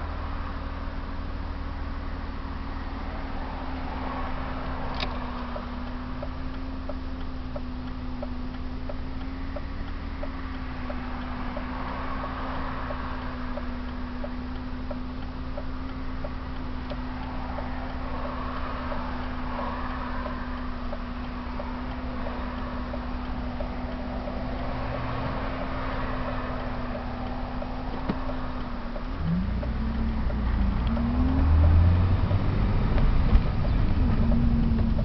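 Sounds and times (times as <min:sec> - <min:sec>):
car engine idling: 0:00.0 - 0:35.0
light regular ticking: 0:00.0 - 0:35.0.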